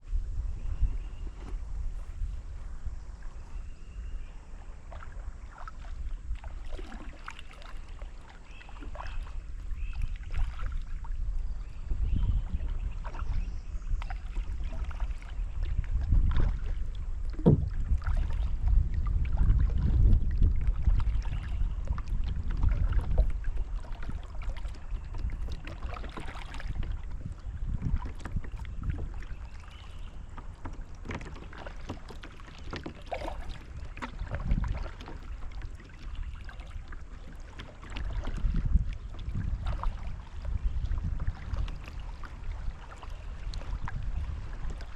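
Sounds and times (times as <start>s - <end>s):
paddle dipping and dripping water: 0.0s - 44.9s
small splashes: 4.9s - 11.2s, 12.5s - 19.9s, 20.6s - 27.0s, 27.9s - 44.9s.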